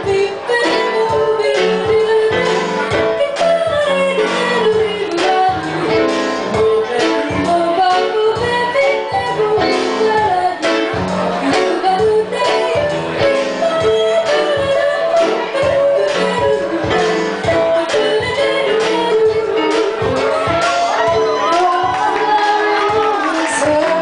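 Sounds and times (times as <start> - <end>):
instrumental accompaniment with beat: 0.0 - 24.0
woman singing: 0.0 - 24.0.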